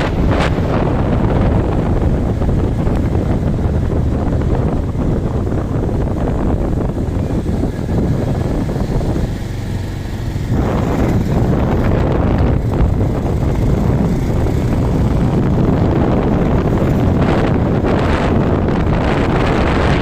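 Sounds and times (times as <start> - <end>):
bike engine roar: 0.0 - 20.0
wind rushing over microphone: 0.0 - 20.0.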